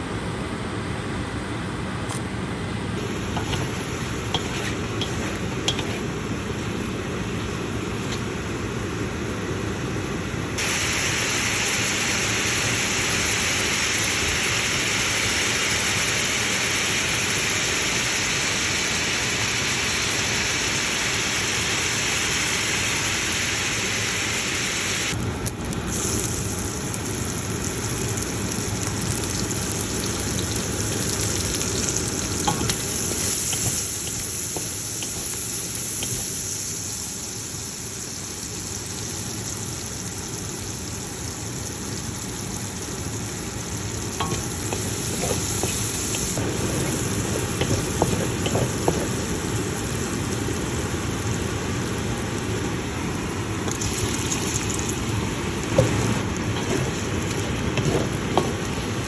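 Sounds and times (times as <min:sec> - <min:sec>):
food sizzling in hot oil: 0:03.0 - 0:08.2, 0:10.6 - 0:52.8, 0:53.6 - 0:59.0.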